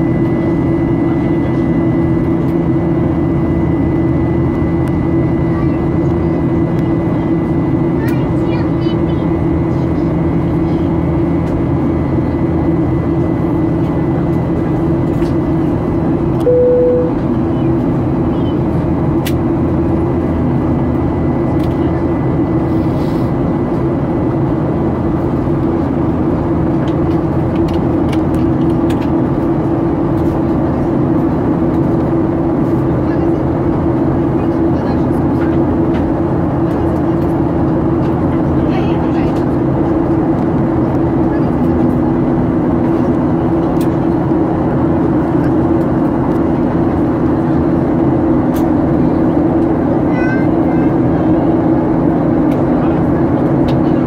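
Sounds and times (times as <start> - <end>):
steady low hum: 0.0 - 50.2
jet engines droning: 0.0 - 54.0.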